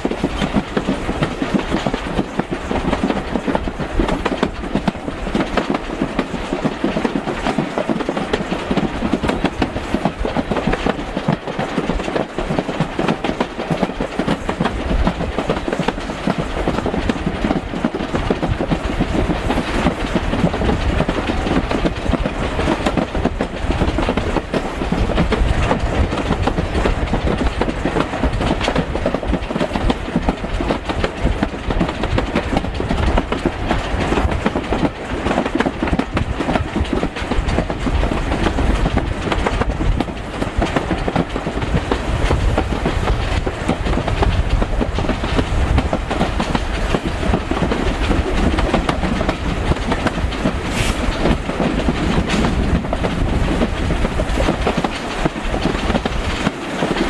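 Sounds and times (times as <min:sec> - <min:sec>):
train carriage rumble: 0:00.0 - 0:57.0
wheels clacking over rail joints: 0:00.0 - 0:57.0.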